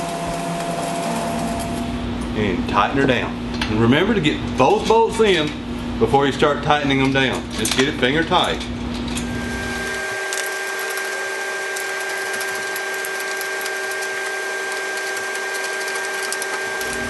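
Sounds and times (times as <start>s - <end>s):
machine hum and hiss: 0.0s - 17.0s.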